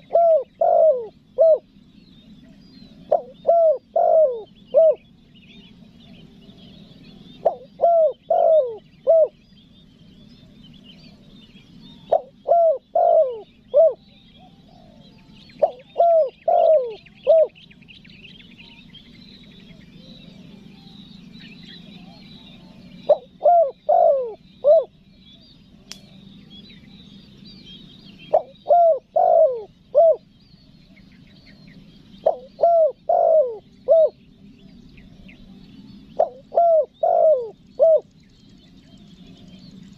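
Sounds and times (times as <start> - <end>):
dove cooing: 0.0 - 9.4, 10.1 - 17.6, 18.3 - 25.1, 28.1 - 38.2
small birds chirping: 0.0 - 39.9.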